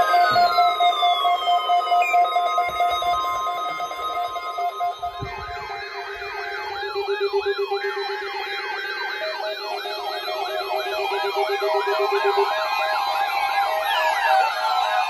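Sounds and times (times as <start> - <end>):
electronic siren yelping: 0.0 - 15.0
fast-pulsing alarm beep: 0.0 - 15.0.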